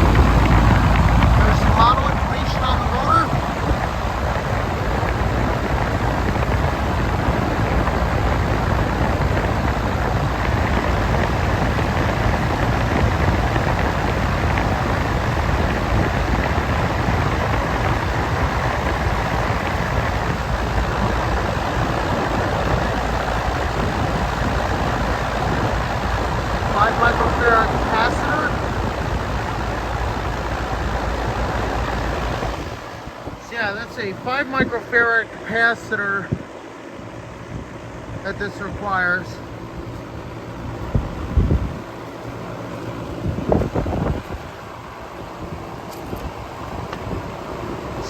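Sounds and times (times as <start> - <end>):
air conditioner fan rushing: 0.0 - 48.0.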